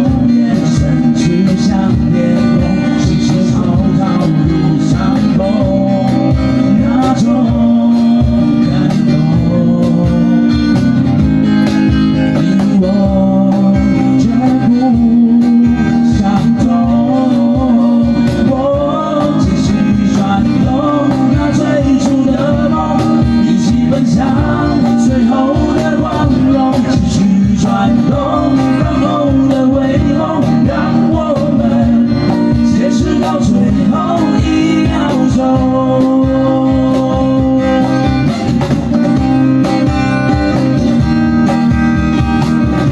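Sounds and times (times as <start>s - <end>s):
man singing: 0.0s - 11.2s, 12.1s - 38.9s
acoustic guitars strumming: 0.0s - 42.9s
cajon beat: 0.0s - 42.9s.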